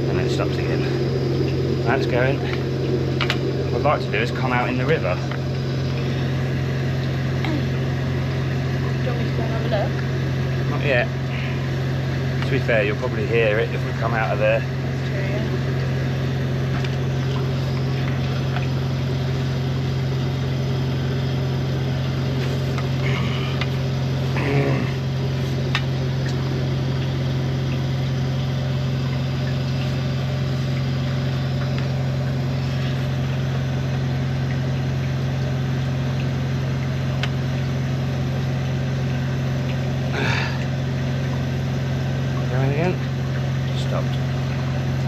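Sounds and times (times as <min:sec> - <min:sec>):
engine and pump running: 0:00.0 - 0:45.0.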